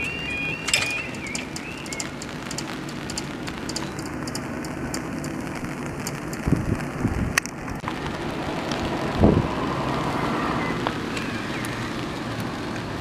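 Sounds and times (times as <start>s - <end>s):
rain drops ticking on umbrella: 0.0s - 13.0s
steady hiss of rain: 0.0s - 13.0s.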